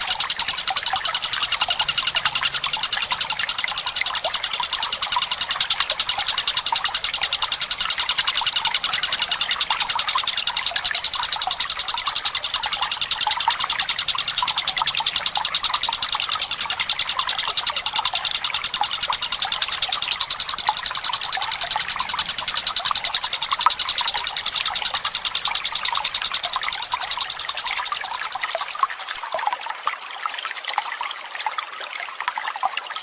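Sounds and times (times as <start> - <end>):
kingfisher chattering rattle: 0.0 - 28.5
trickling water: 0.0 - 33.0.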